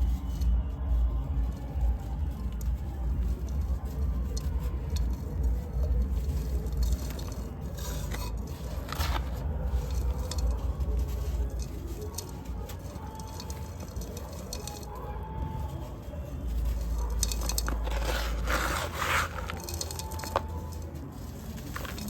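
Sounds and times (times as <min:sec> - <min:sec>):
clay pieces crumbling by hand: 0:01.5 - 0:14.9, 0:15.5 - 0:22.0.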